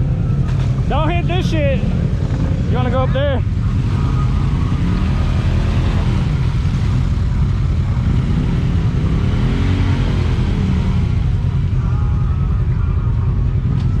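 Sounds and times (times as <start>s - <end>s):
turbocharged engine revving: 0.0s - 11.9s.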